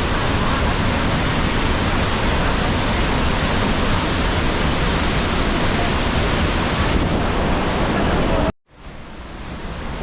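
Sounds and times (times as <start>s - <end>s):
large waterfall roaring: 0.0s - 10.0s.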